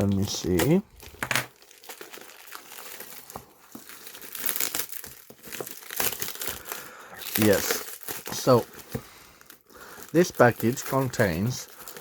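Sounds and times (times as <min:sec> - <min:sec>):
package wrapping crinkling and tearing: 0:00.0 - 0:12.0.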